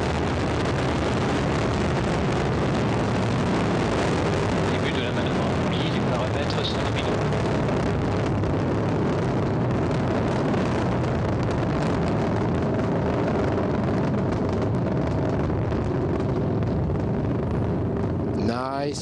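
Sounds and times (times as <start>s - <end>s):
rocket engines roaring: 0.0s - 19.0s.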